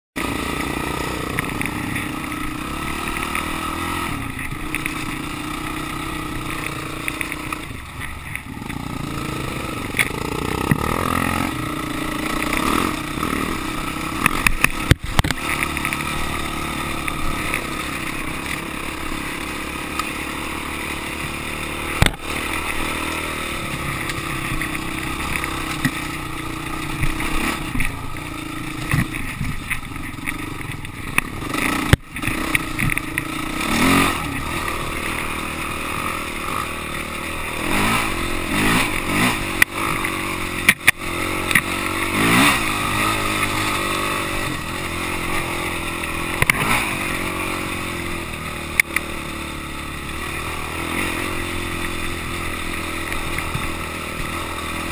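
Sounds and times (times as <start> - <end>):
bike clattering over rough ground: 0.2 - 54.9
dirt bike engine under load: 0.2 - 54.9.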